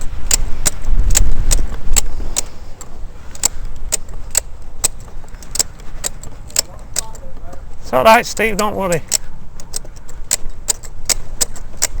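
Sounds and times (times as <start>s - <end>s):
sharp metallic clicking: 0.0s - 12.0s.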